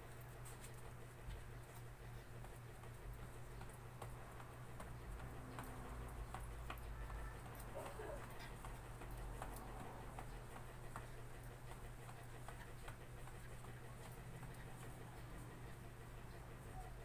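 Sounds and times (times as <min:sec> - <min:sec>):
light footfalls jogging in place: 0:00.0 - 0:17.0.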